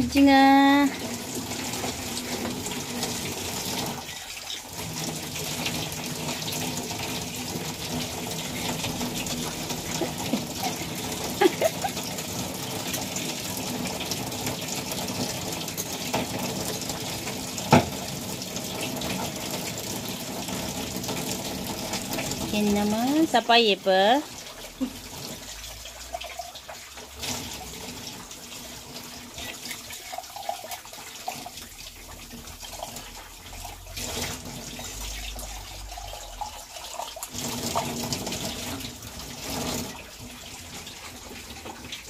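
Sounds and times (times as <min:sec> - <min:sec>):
tap water running into sink: 0:00.0 - 0:42.0.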